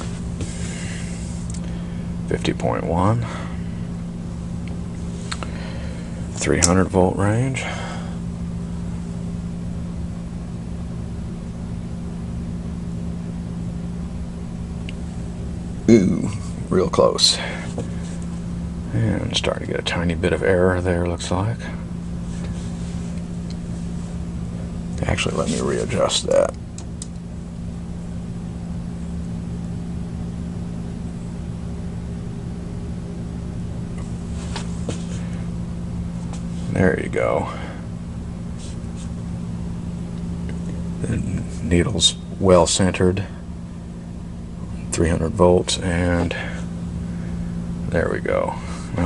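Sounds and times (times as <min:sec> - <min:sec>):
electrical hum: 0:00.0 - 0:49.0.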